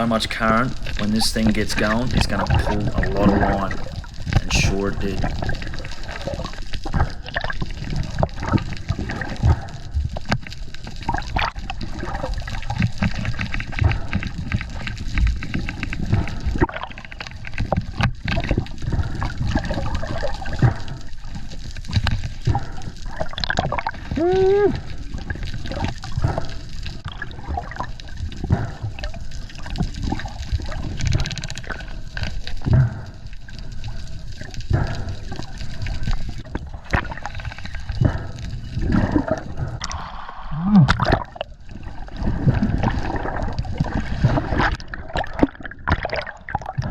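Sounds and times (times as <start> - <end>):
water rushing and gurgling: 0.0 - 46.9.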